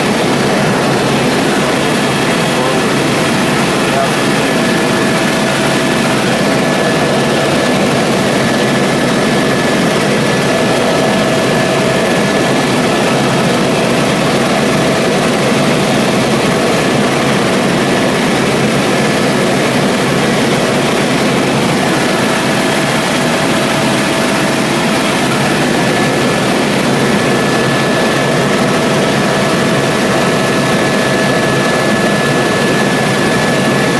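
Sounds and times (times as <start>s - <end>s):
helicopter engine and rotor noise: 0.0s - 33.9s.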